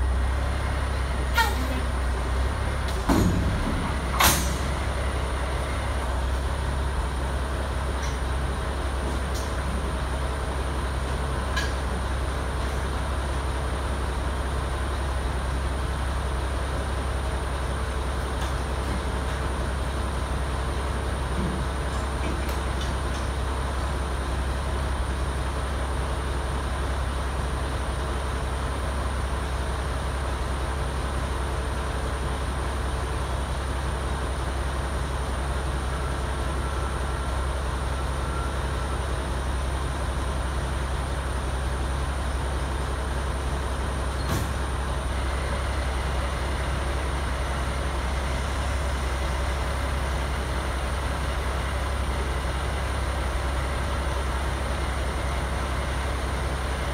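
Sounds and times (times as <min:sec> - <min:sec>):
diesel truck engine idling: 0:00.0 - 0:56.9.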